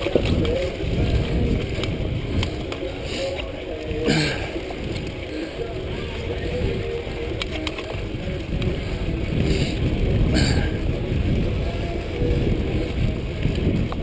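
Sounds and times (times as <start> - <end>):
bike rattling clicks: 0.0 - 14.0
tyres rolling on dirt trail: 0.0 - 14.0
wind rumbling on microphone: 0.0 - 14.0.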